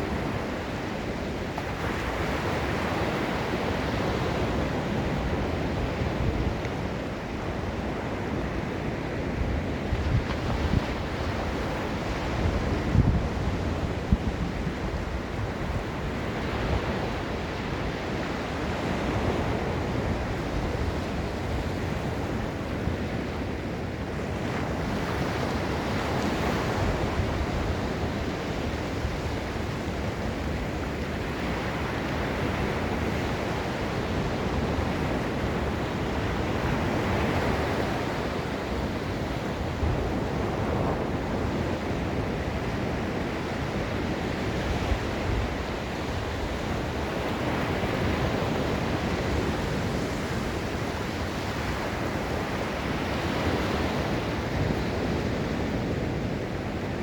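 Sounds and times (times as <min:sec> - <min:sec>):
ocean surf breaking on beach: 0:00.0 - 0:57.0
wind on microphone: 0:00.0 - 0:57.0.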